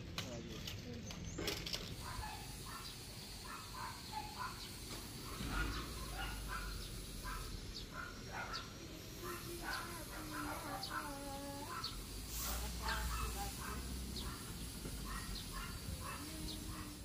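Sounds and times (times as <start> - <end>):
small birds chirping: 0.3 - 17.0.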